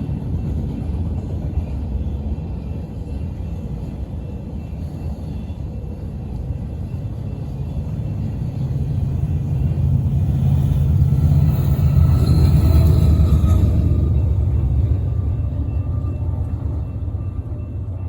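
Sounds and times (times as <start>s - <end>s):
faint steady tones: 0.1s - 18.0s.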